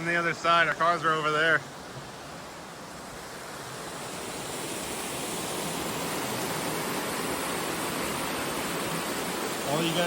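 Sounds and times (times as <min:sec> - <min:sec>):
water rushing over rocks: 0:00.0 - 0:10.0.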